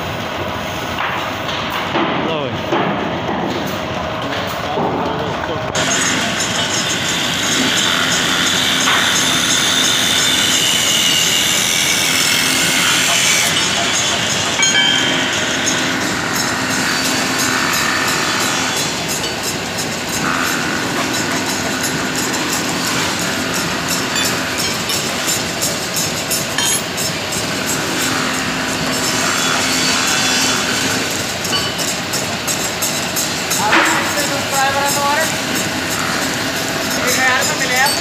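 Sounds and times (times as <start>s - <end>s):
woodworking machine cutting wood: 3.8s - 38.0s.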